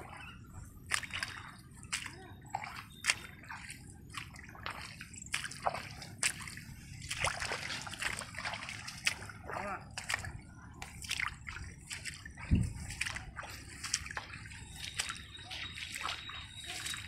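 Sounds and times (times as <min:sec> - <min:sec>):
footsteps squelching through mud: 0:00.0 - 0:17.0.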